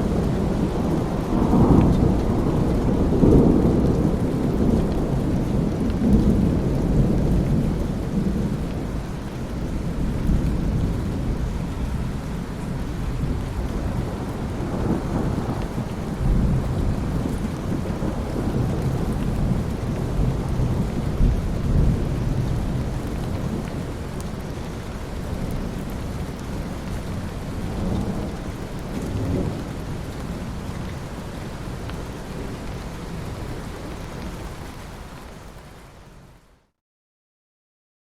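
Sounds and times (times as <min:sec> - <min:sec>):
thunder rumbling: 0:00.0 - 0:34.0
steady rain: 0:00.0 - 0:36.8.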